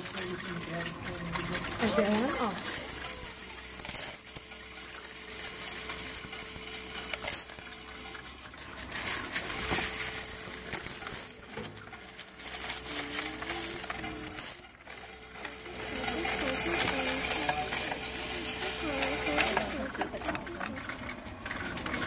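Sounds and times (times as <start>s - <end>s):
coins clattering in counting machine: 0.0s - 22.0s.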